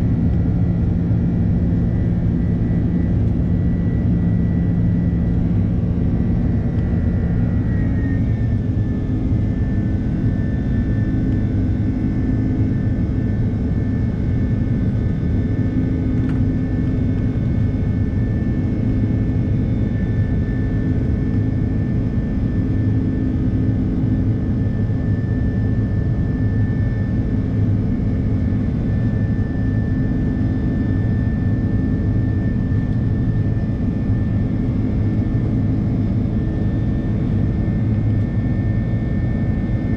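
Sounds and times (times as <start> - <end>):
jet engines heard from cabin: 0.0 - 39.9.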